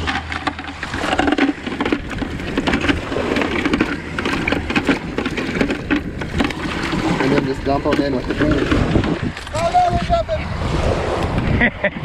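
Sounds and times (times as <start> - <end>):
wet net shaken over bucket: 0.0 - 9.7.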